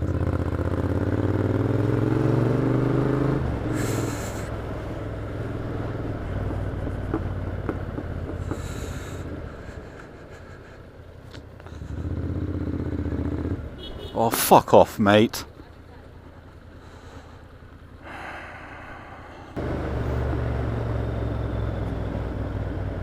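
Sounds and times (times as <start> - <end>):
motorcycle engine accelerating: 0.0 - 14.1, 16.4 - 23.0.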